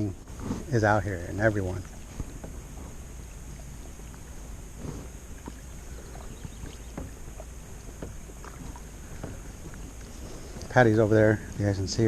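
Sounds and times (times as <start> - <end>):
motorboat rumble: 0.0 - 12.0.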